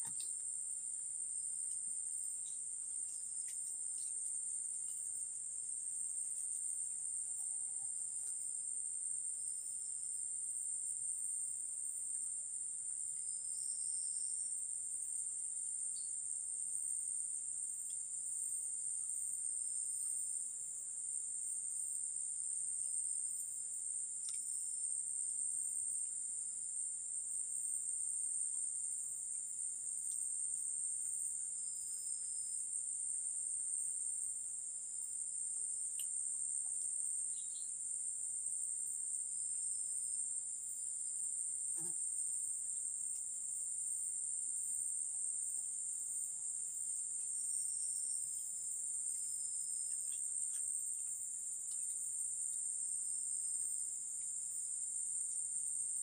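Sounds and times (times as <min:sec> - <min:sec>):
insect chorus droning: 0:00.0 - 0:56.0.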